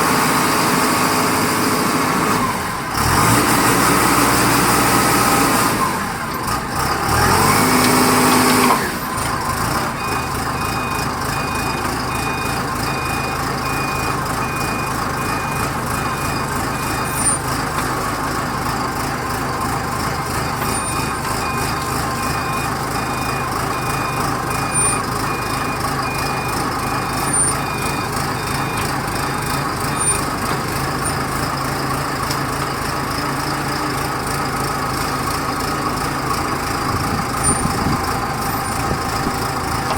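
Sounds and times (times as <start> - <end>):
concrete mixer engine running: 0.0 - 39.9
reversing alarm beeping: 2.5 - 32.8, 36.0 - 39.9.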